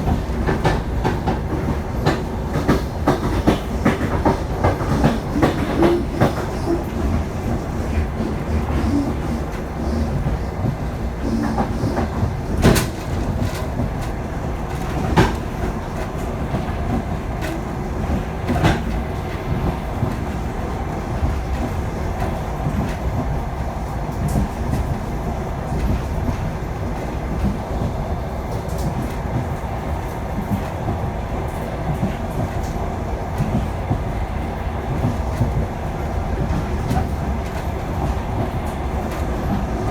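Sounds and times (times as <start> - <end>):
train wheels rumbling on rails: 0.0 - 39.9
wheels clacking over rail joints: 0.0 - 39.9.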